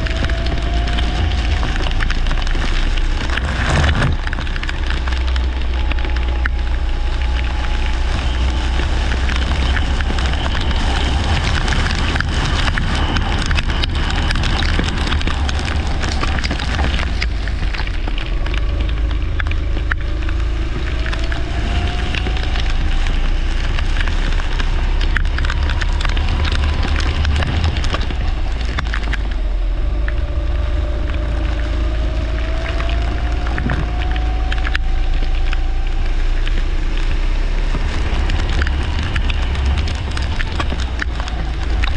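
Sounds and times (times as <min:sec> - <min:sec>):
constant crackling: 0:00.0 - 0:41.9
heavy low rumble: 0:00.0 - 0:41.9.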